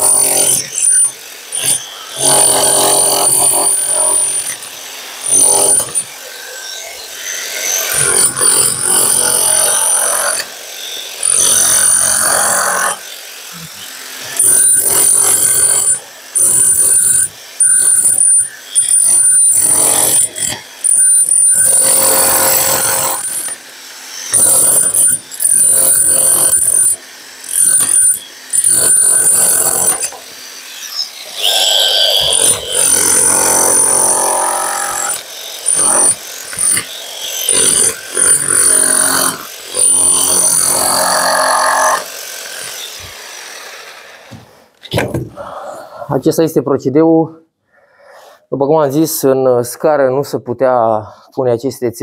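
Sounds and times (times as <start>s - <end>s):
power tool cutting concrete: 0.0s - 45.2s.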